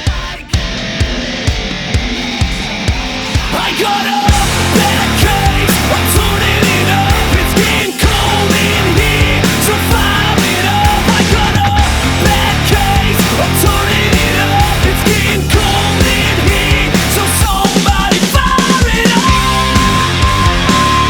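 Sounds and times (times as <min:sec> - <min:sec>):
loud rock music: 0:00.0 - 0:21.0.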